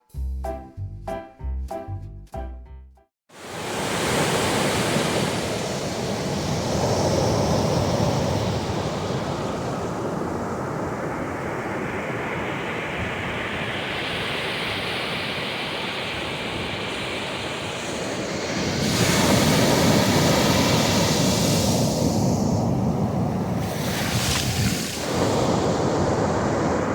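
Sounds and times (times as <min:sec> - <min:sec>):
sea waves washing: 0:03.4 - 0:26.9.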